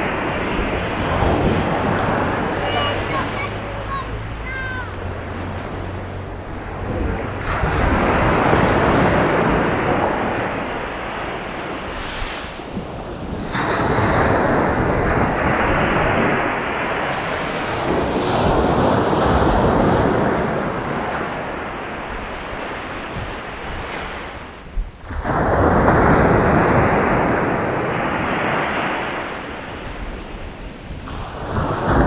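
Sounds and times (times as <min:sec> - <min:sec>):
waves breaking on beach: 0:00.0 - 0:32.0.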